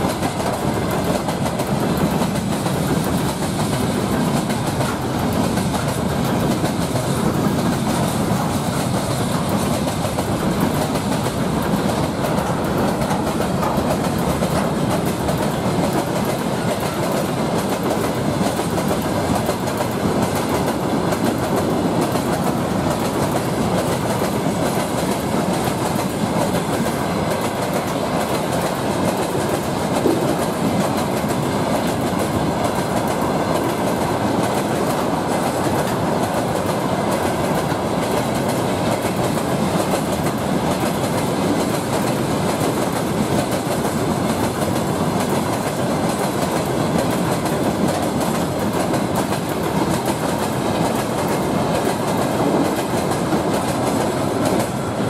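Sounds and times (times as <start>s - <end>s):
freight train wheels rumbling: 0.0s - 55.0s
wheels clicking over rail joints: 0.0s - 55.0s.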